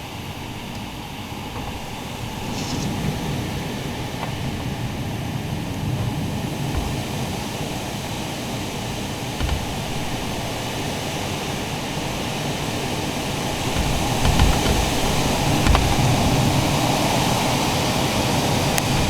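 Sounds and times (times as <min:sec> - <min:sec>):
gusts buffeting microphone: 0:00.0 - 0:19.0.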